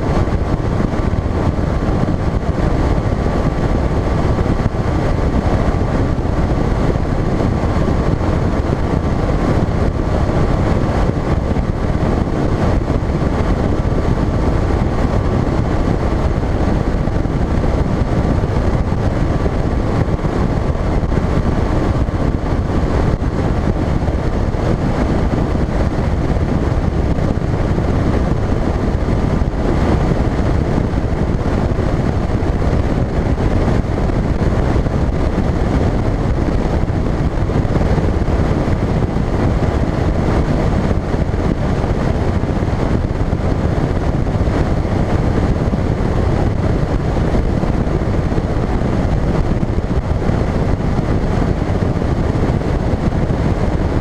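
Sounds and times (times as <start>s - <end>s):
outboard motor: 0.0s - 54.0s
wind rushing on microphone: 0.0s - 54.0s.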